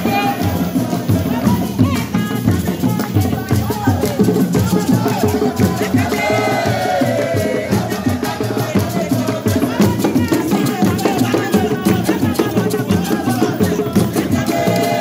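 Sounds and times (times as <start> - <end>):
hand drums played fast: 0.0 - 15.0
voices singing: 0.0 - 15.0.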